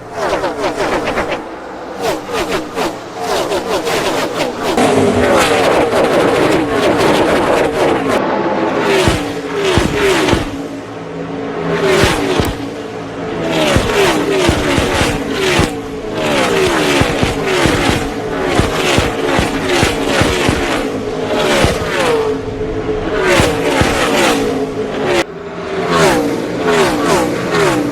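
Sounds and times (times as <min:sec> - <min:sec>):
race cars passing at full throttle: 0:00.0 - 0:27.9.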